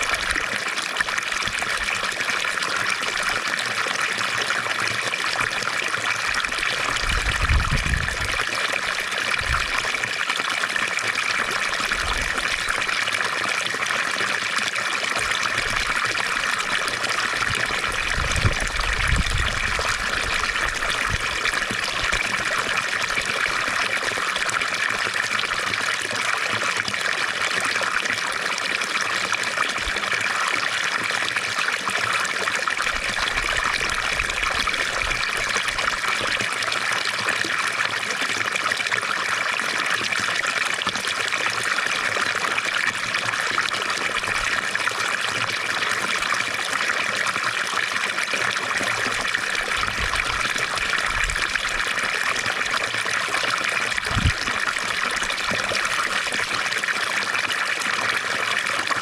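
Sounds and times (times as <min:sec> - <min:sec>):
fountain water splashing: 0:00.0 - 0:59.0.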